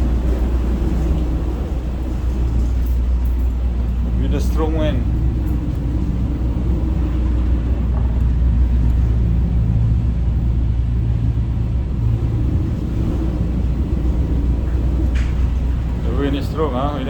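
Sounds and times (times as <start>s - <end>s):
ship engine drone and wind: 0.0s - 17.0s.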